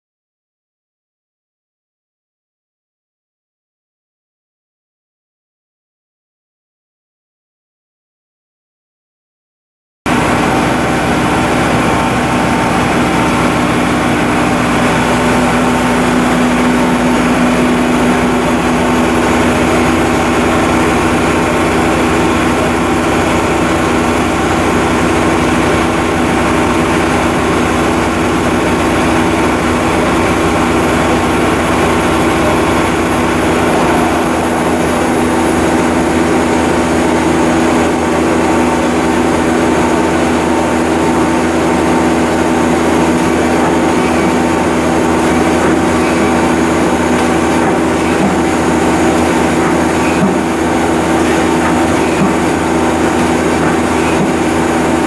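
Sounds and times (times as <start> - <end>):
lathe machine hum: 10.1 - 55.0.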